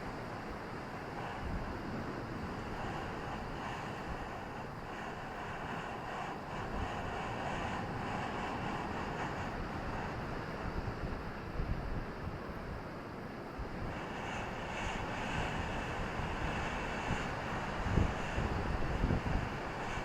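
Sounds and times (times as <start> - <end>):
ocean surf washing on beach: 0.0 - 20.0.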